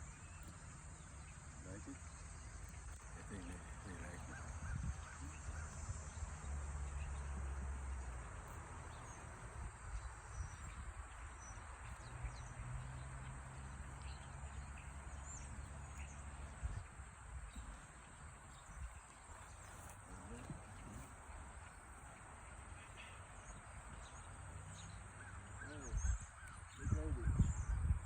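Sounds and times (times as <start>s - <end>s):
bird chirps: 0.0s - 27.9s
high insect chorus: 0.0s - 28.0s.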